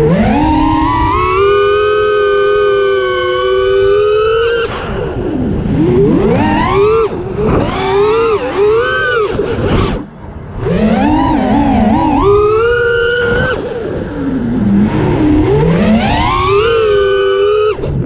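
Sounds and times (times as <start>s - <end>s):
quadcopter motor whine: 0.0s - 18.0s.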